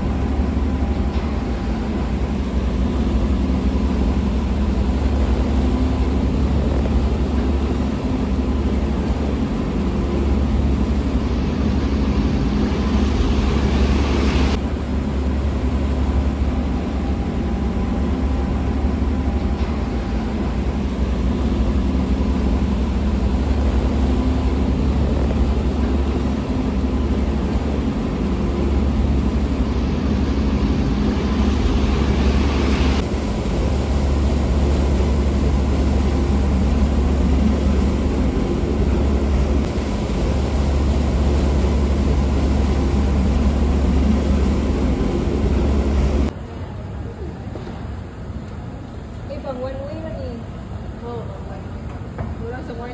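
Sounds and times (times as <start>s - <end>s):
ferry engines droning: 0.0s - 52.9s.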